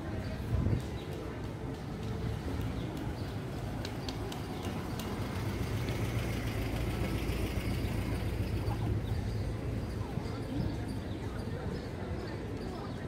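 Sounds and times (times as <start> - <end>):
vehicle engine rumbling: 0.4 - 11.5.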